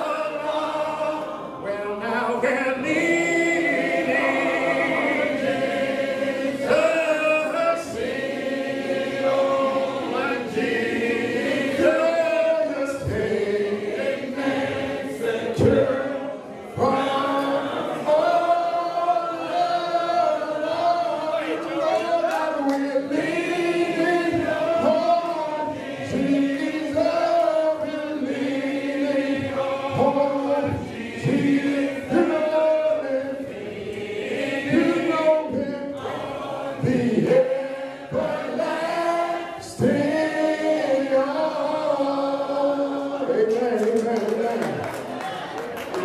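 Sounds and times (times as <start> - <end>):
man leading singing on microphone: 0.0 - 44.8
congregation singing a hymn: 0.0 - 46.0.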